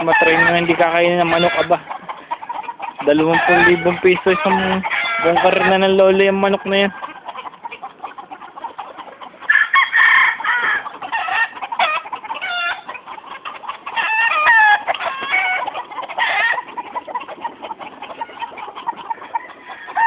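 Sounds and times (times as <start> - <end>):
roosters crowing: 0.0 - 20.0.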